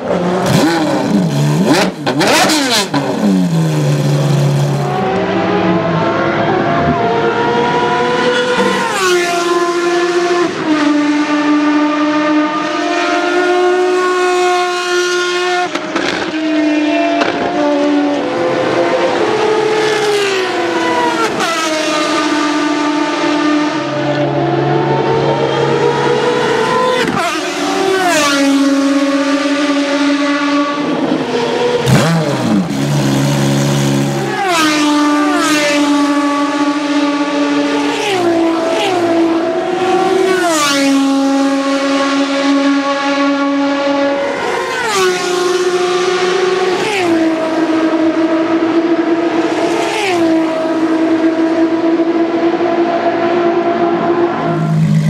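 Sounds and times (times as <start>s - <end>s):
race car engines passing at speed: 0.0s - 55.0s.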